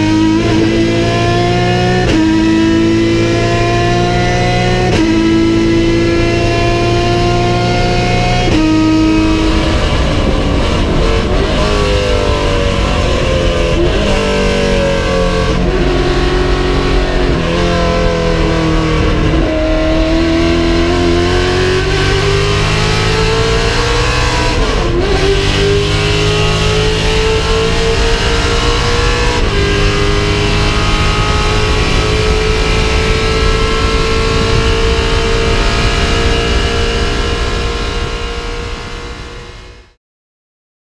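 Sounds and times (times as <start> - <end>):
racing car engine revving: 0.0 - 40.0.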